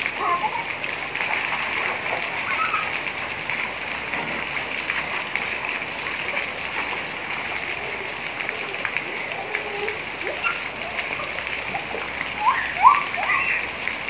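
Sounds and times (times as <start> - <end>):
feet splashing through water: 0.0 - 14.0
heavy rain on pavement and roofs: 0.0 - 14.0.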